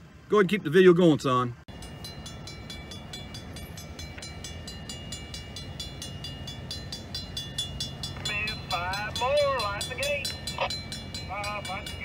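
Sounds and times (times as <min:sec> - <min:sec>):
low steady hum: 0:00.0 - 0:12.0
crossing warning bell ringing: 0:01.7 - 0:12.0.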